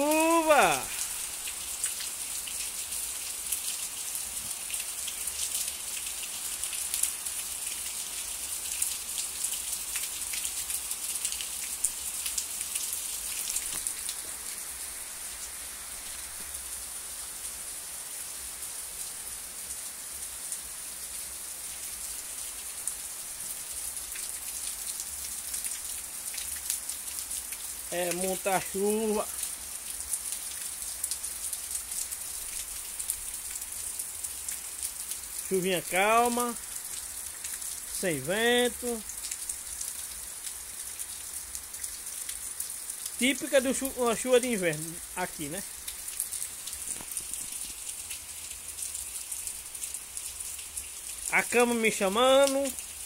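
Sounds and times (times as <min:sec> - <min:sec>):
heavy steady rain: 0:00.0 - 0:53.0
raindrops hitting concrete wall: 0:00.0 - 0:53.0.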